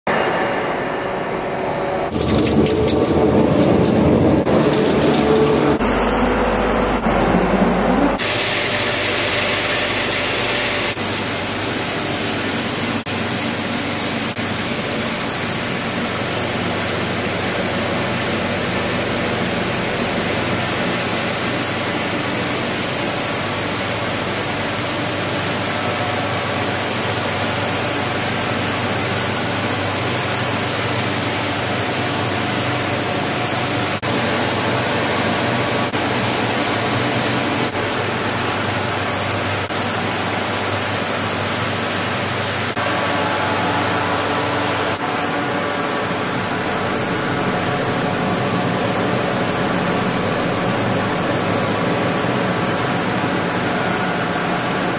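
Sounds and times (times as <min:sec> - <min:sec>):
machinery rushing noise: 0:00.2 - 0:54.9.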